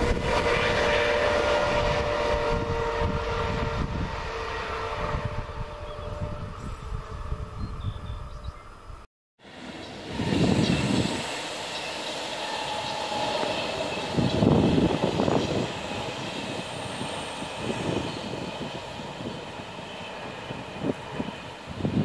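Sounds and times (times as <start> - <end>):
wind buffeting microphone: 0.0 - 9.0, 10.0 - 11.5, 12.6 - 22.0
distant train wheels rumbling: 0.0 - 22.0.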